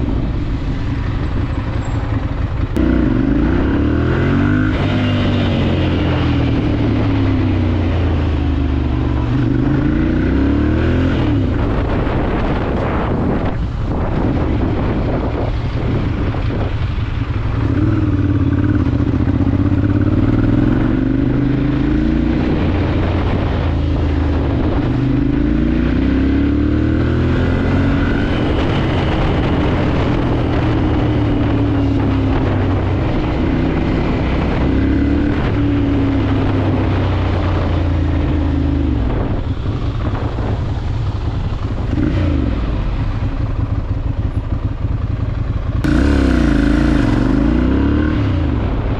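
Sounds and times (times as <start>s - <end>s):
motorcycle engine revving: 0.0s - 48.9s
wind and road rush: 0.0s - 48.9s.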